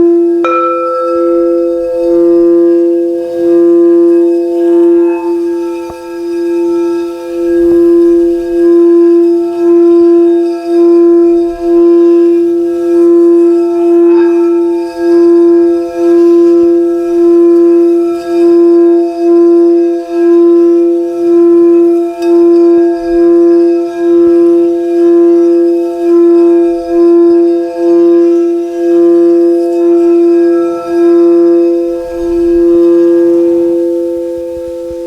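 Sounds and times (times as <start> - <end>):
singing bowl ringing tone: 0.0 - 35.0.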